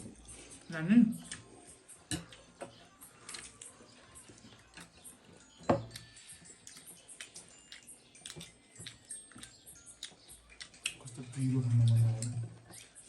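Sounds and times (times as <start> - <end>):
chewing clicks and smacks: 0.1 - 13.0.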